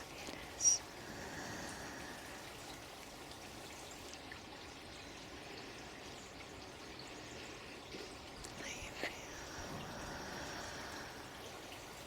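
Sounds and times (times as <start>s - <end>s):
running water trickling: 0.0s - 12.0s.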